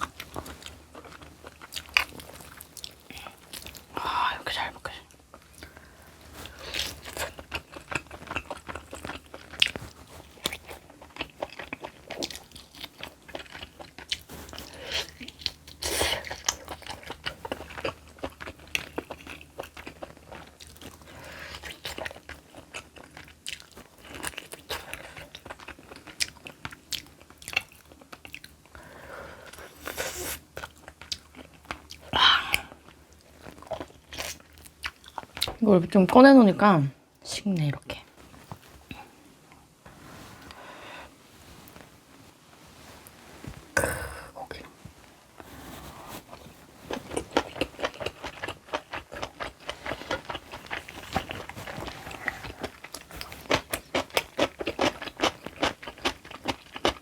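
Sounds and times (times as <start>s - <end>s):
person chewing crunchy food: 0.0s - 35.6s, 38.2s - 57.0s.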